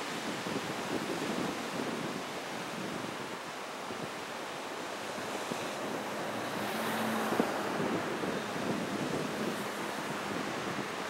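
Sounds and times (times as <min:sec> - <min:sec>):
surf breaking on rocky shore: 0:00.0 - 0:11.0
wind on microphone: 0:00.0 - 0:11.0.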